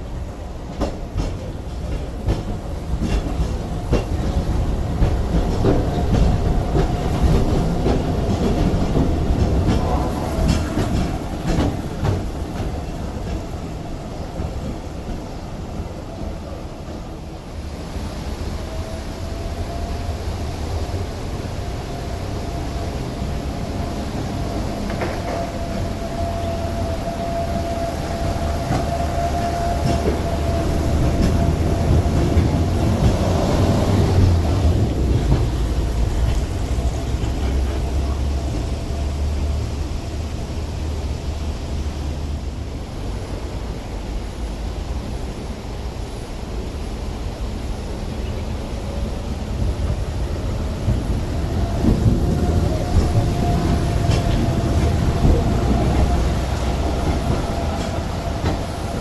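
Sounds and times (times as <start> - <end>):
funicular car rumbling on rails: 0.0 - 59.0.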